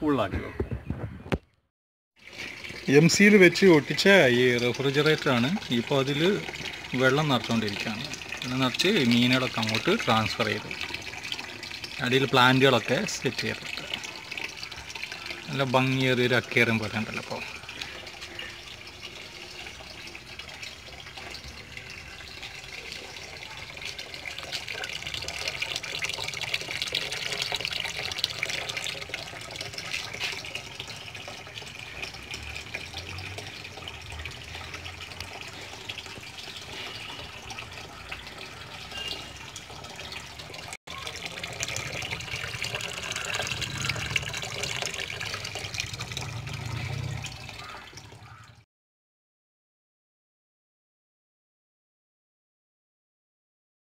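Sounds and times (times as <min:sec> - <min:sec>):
hose water pouring into tank: 0:02.2 - 0:48.4.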